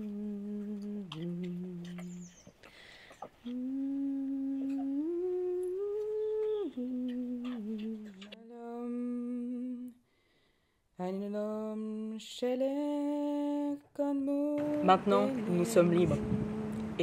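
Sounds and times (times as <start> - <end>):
person humming a slow tune: 0.0 - 2.6, 3.4 - 10.0, 11.0 - 17.0.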